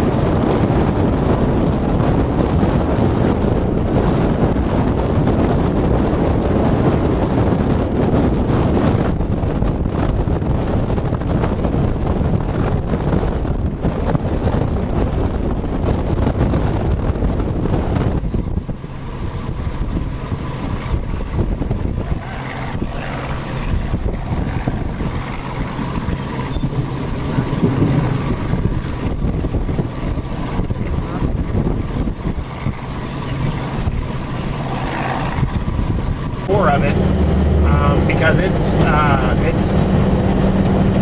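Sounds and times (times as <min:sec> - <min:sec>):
car road noise: 0:00.0 - 0:41.0
wind buffeting microphone: 0:00.0 - 0:41.0.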